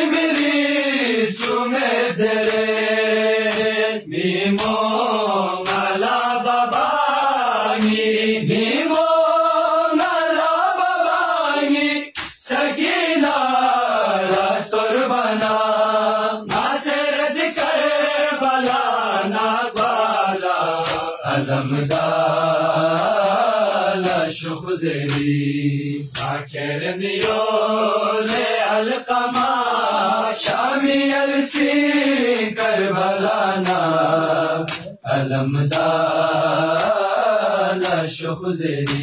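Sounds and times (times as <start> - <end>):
men chanting a lament: 0.0 - 39.0.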